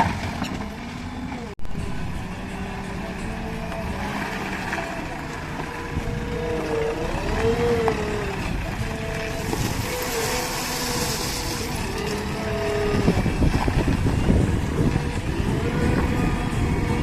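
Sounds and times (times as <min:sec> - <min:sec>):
diesel engine running: 0:00.0 - 0:17.0
rough low rumbling: 0:00.4 - 0:17.0.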